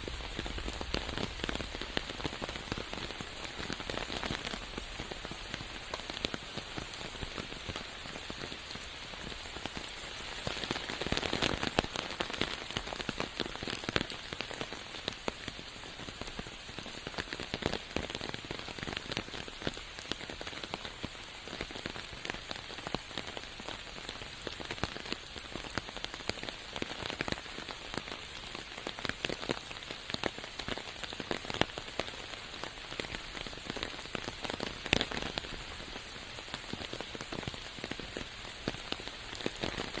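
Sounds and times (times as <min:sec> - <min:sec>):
close raindrop hits: 0:00.0 - 0:40.0
rain falling in forest: 0:00.0 - 0:40.0.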